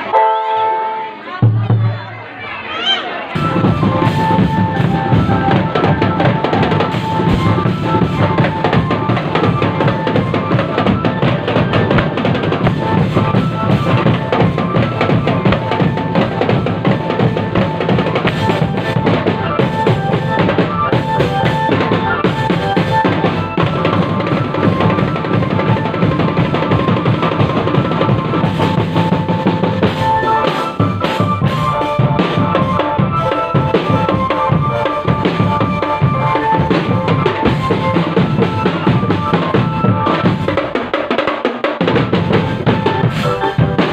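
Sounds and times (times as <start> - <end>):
high melody line: 3.3 - 40.9, 41.8 - 43.9
bass drums and snare drums: 3.3 - 43.9.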